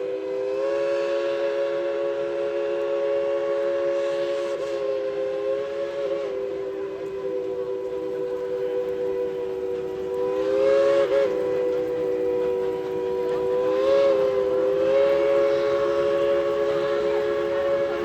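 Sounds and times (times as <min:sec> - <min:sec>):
chime steam whistle blast: 0:00.0 - 0:18.0.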